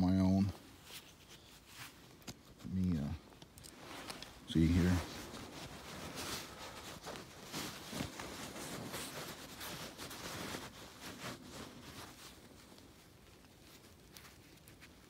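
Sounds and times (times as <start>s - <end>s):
faint rustling: 0.0s - 15.0s.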